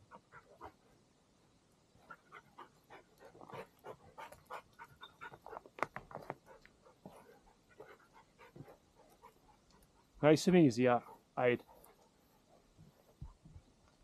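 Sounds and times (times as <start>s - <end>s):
dog panting: 0.0s - 0.9s, 2.0s - 13.4s.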